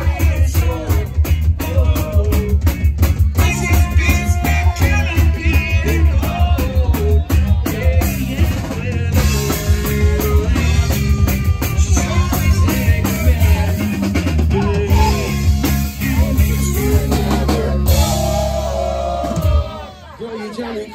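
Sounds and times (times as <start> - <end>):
drum kit beat: 0.0 - 19.9
bass and electric guitar: 0.0 - 20.0.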